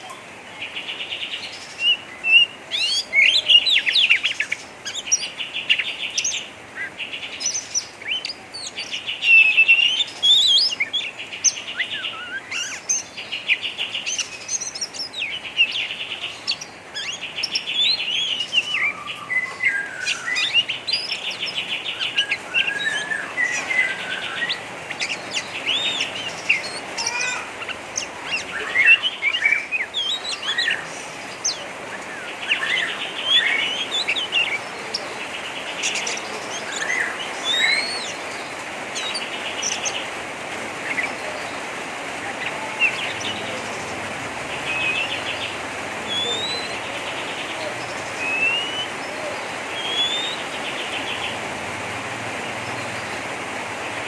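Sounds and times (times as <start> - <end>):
bird chattering song: 0.0 - 40.1, 42.3 - 51.4.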